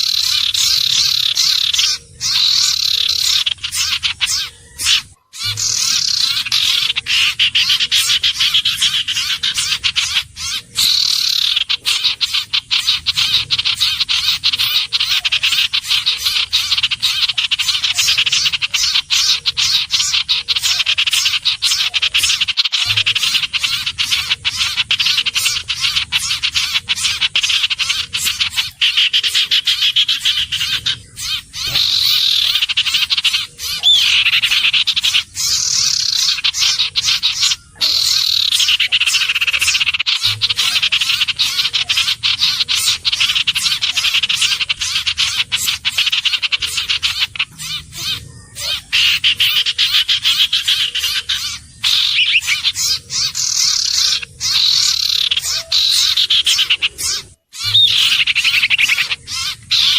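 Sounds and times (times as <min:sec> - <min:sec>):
bird chattering trill: 0:00.0 - 0:59.9.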